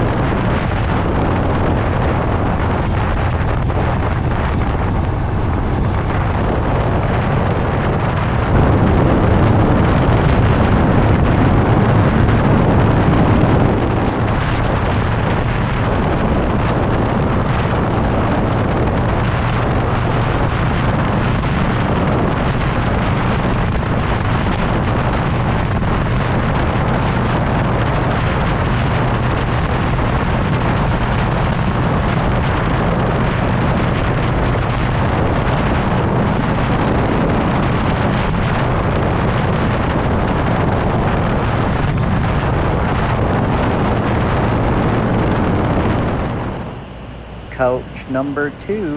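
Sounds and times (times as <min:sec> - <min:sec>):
wind rush on microphone: 0:00.0 - 0:47.6.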